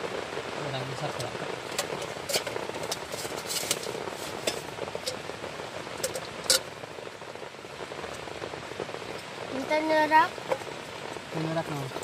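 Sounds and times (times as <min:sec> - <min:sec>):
rain on a tent: 0:00.0 - 0:12.0.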